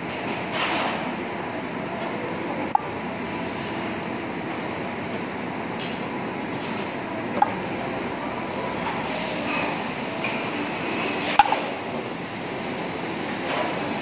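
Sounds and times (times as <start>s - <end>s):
restaurant background noise: 0.0s - 14.0s.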